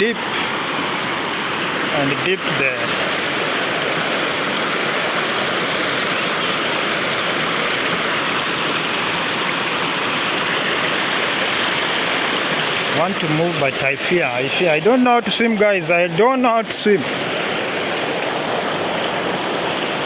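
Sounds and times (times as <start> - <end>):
river water rushing over stones: 0.0 - 20.0.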